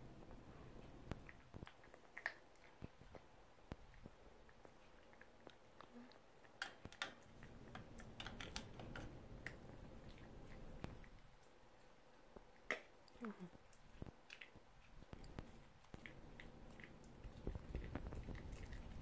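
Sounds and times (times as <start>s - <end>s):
dog teeth crunching a chew: 1.1s - 11.6s, 12.4s - 19.0s.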